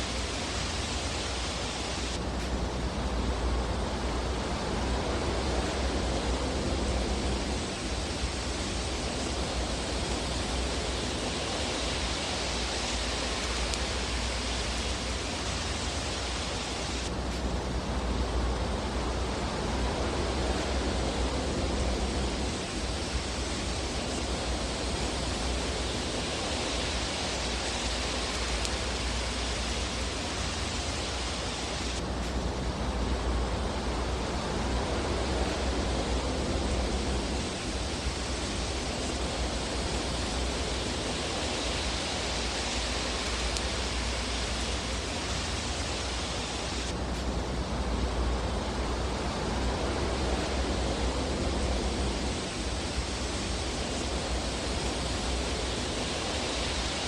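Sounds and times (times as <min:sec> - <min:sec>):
fireplace fire hissing: 0:00.0 - 0:57.0.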